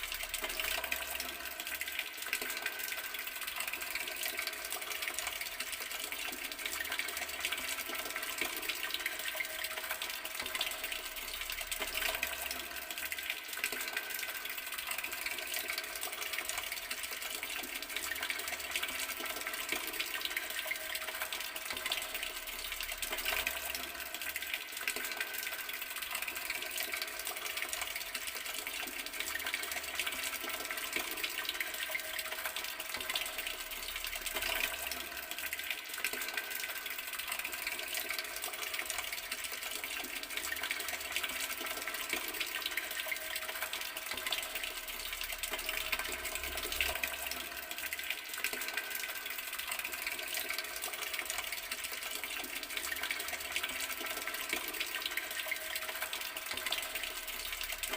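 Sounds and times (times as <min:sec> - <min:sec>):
water tap running: 0:00.0 - 0:57.9.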